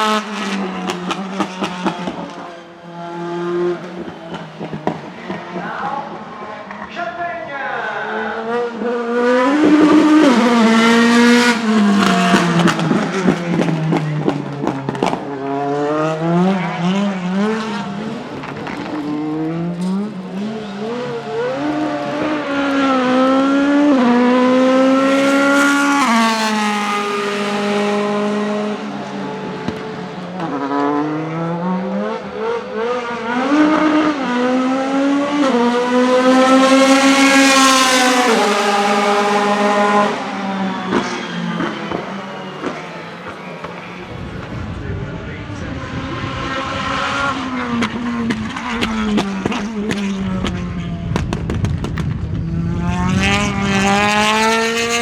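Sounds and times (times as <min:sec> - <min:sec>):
race car engine revving: 0:00.0 - 0:06.9, 0:08.1 - 0:55.0.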